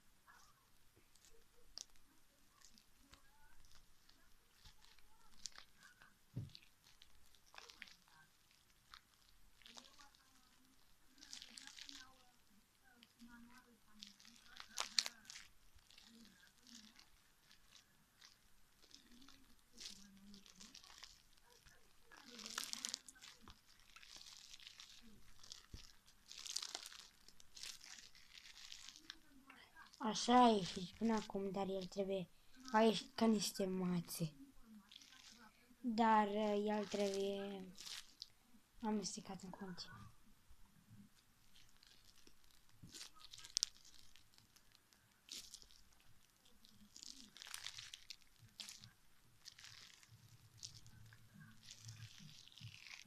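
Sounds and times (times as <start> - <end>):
slime crackling and squelching: 0.0 - 40.2, 40.9 - 53.0.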